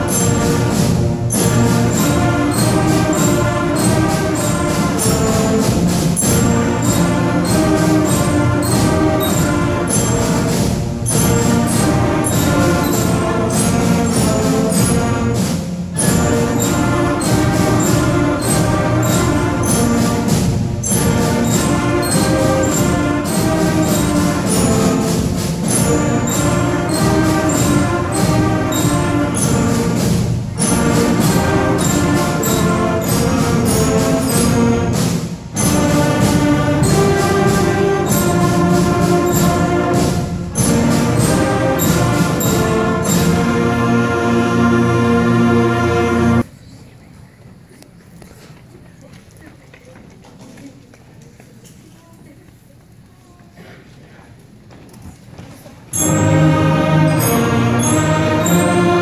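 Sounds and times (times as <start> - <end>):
school band playing a march: 0.0 - 46.5, 55.8 - 59.0.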